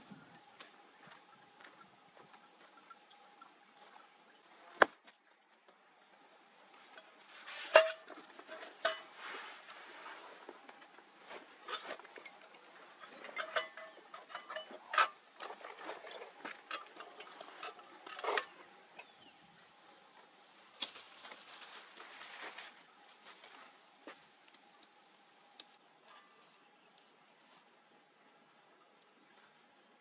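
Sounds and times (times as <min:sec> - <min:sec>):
insects trilling: 0:05.7 - 0:30.0.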